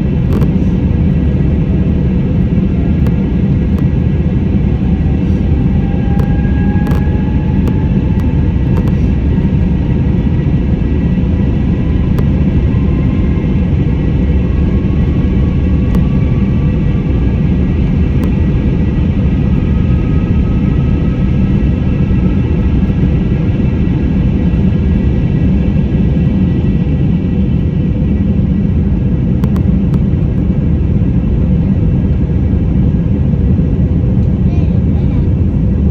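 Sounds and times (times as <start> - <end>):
jet engines rumbling in cabin: 0.0 - 35.9.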